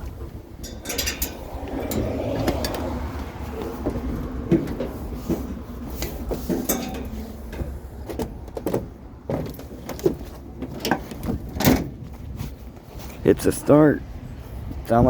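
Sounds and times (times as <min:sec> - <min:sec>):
knocks and clatters: 0:00.0 - 0:12.2
low engine rumble: 0:00.0 - 0:15.0.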